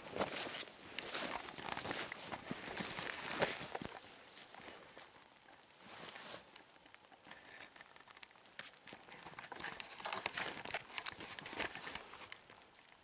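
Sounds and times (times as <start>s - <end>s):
crunchy footsteps: 0.0s - 13.0s
dry grass and clothing rustling: 0.0s - 13.0s.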